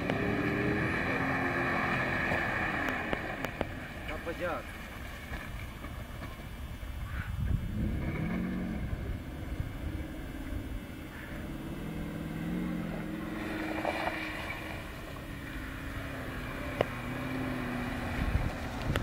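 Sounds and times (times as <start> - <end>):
car engine revving: 0.0 - 6.4, 7.5 - 19.0.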